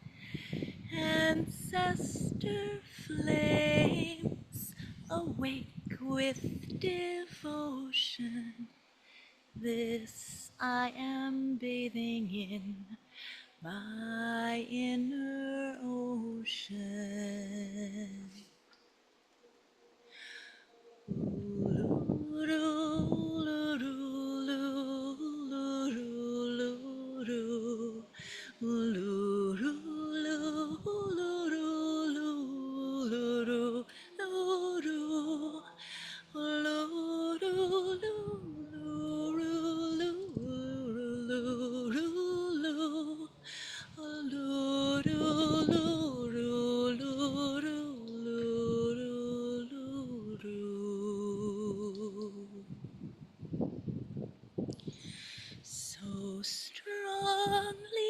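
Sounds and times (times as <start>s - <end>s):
person singing slow devotional melody: 0.0s - 18.8s, 20.0s - 58.0s.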